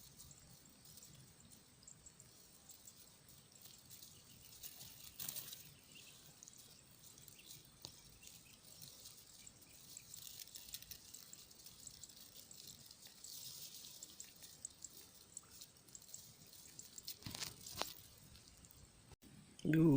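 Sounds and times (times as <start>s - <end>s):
high ticks: 0.0s - 18.9s
water trickling and dripping: 0.0s - 19.2s.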